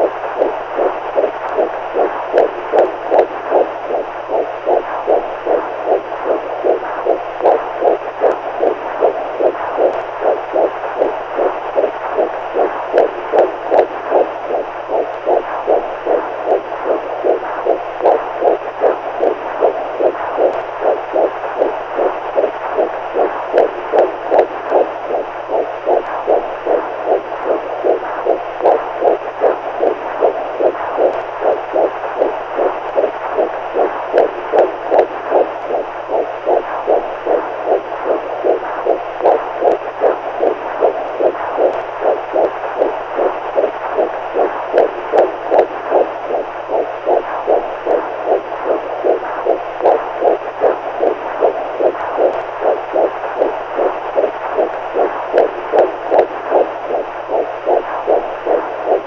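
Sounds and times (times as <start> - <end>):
faint low hum: 0.0 - 59.0
heartbeat thumps: 0.0 - 59.0.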